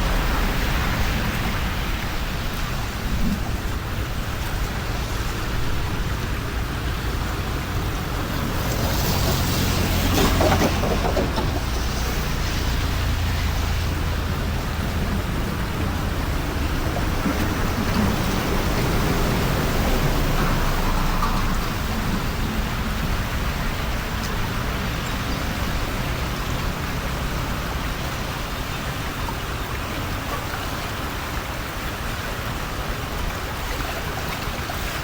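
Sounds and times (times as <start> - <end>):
heavy rain: 0.0 - 35.0.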